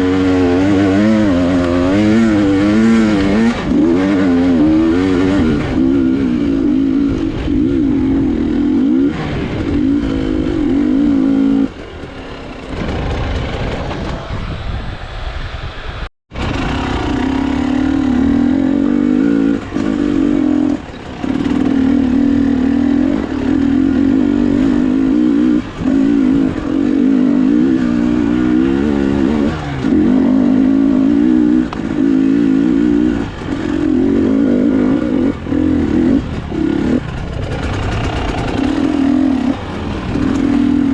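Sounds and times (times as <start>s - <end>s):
motorcycle engine under throttle: 0.0s - 14.8s, 16.3s - 40.9s.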